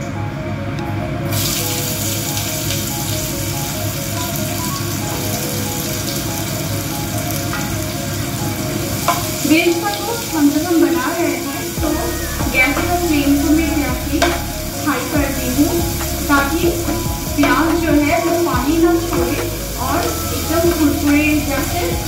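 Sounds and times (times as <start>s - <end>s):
onions sizzling in hot oil: 1.3s - 22.0s.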